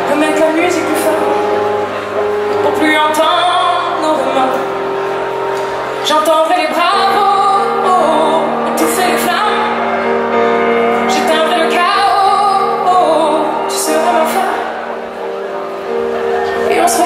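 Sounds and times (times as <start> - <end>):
woman singing: 0.0 - 1.9, 2.6 - 5.0, 6.0 - 15.0, 16.2 - 17.0
piano chords: 0.0 - 17.0.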